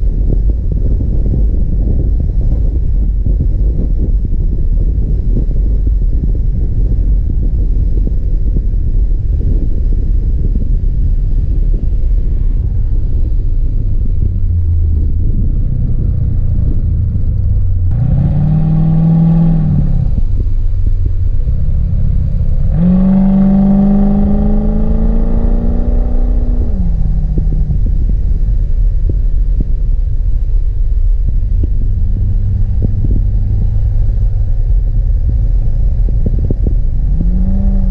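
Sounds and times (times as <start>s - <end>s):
car engine rumbling and revving: 0.0s - 37.9s.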